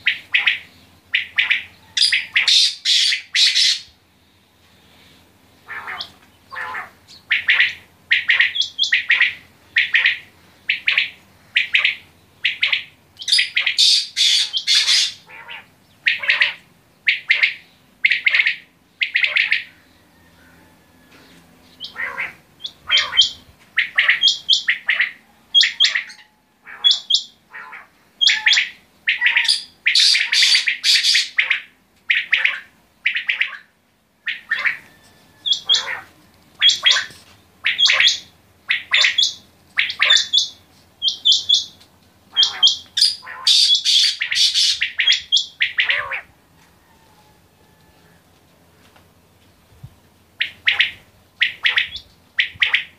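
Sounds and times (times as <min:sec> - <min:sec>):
quail calling: 0:00.0 - 0:04.0, 0:05.6 - 0:48.2, 0:50.4 - 0:52.9.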